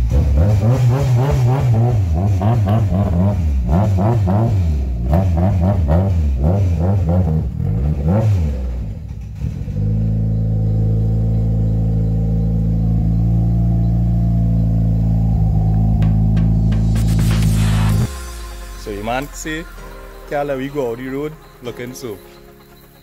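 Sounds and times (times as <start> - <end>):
car engine revving: 0.0 - 20.3
car engine idling: 0.0 - 23.0.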